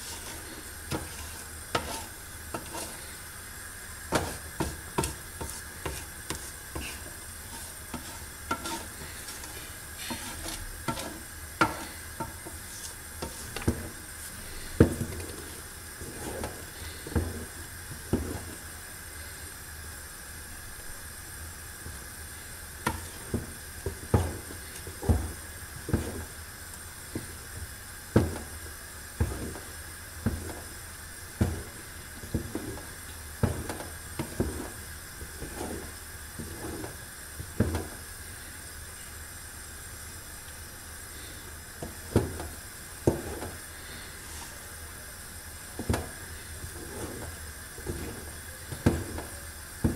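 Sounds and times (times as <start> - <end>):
faint steady hiss: 0.0 - 49.9.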